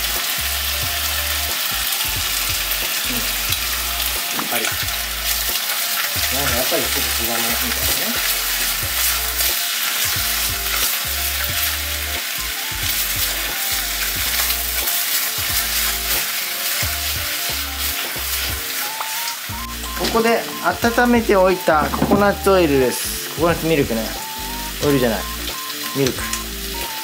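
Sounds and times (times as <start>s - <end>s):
chicken sizzling in a pot: 0.0s - 27.0s.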